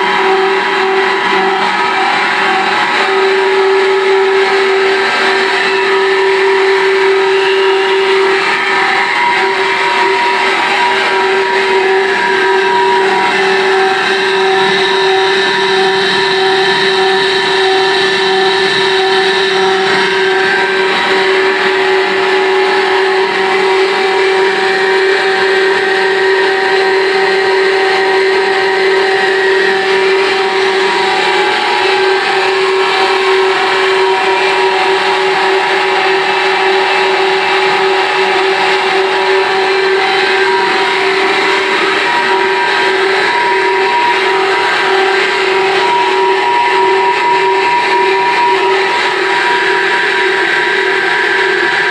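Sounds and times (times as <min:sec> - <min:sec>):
water turbine generator whine: 0:00.0 - 0:51.9.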